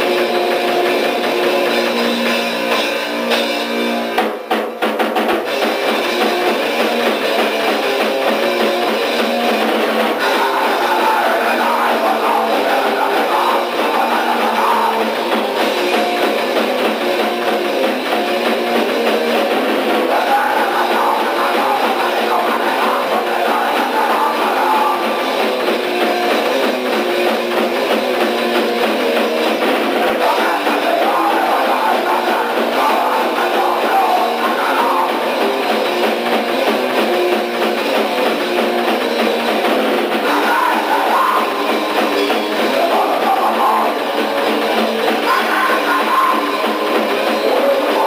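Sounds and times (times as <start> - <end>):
punk band guitar and drums: 0.0 - 48.0.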